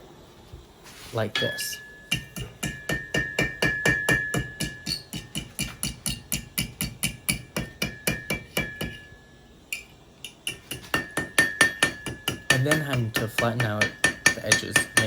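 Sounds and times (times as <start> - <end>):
hammer striking on anvil: 1.4 - 15.0.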